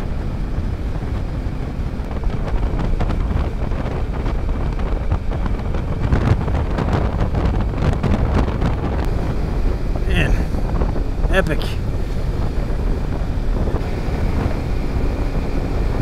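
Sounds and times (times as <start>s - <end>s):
motorcycle engine and tyre noise: 0.0s - 16.0s
wind buffeting microphone: 0.0s - 16.0s.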